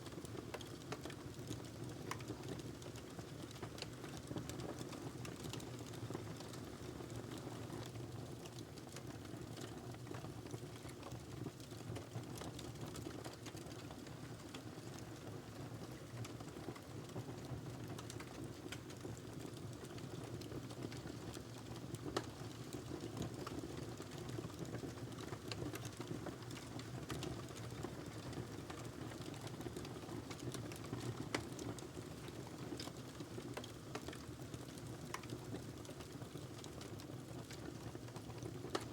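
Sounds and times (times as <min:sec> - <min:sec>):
fire crackling and popping: 0:00.1 - 0:38.9.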